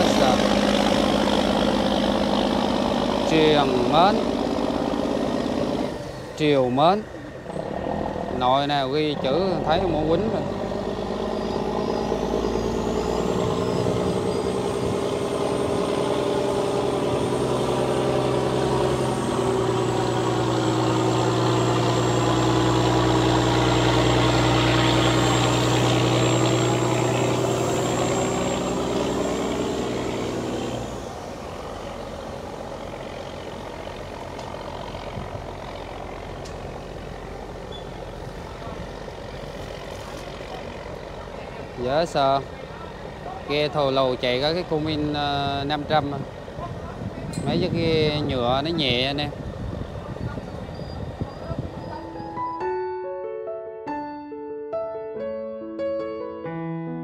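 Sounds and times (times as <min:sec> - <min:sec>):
diesel boat engine running hard: 0:00.0 - 0:52.4.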